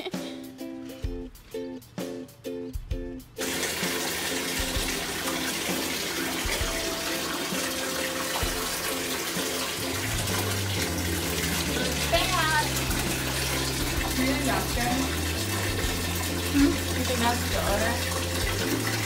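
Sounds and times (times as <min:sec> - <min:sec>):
water pouring into bathtub: 0:03.4 - 0:19.0.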